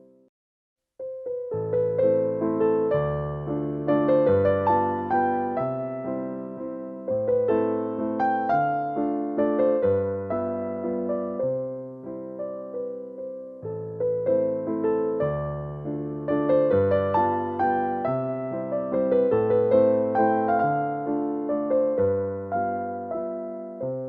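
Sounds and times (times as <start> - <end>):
gentle piano music: 0.0 - 0.3, 1.0 - 24.0.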